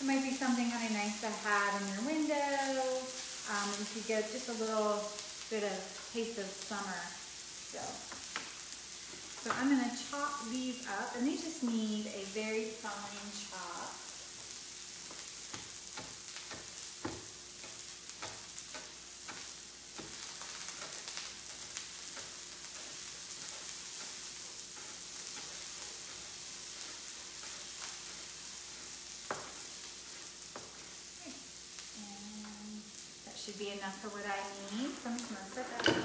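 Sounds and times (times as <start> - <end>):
okra sizzling in oil: 0.0 - 36.0.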